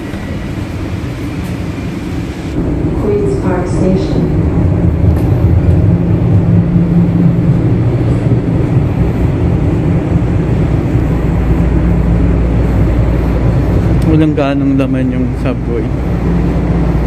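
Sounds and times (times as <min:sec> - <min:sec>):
subway train rumbling: 0:00.0 - 0:17.0.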